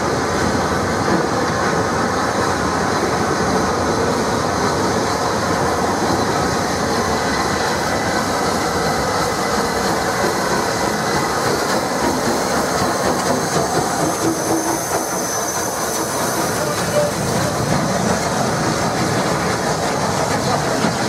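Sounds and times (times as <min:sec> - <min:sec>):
steam locomotive wheels rattling: 0:00.0 - 0:21.0.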